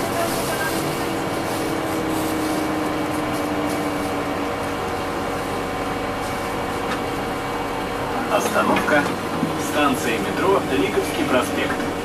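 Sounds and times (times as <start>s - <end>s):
bus engine hum: 0.0s - 12.0s.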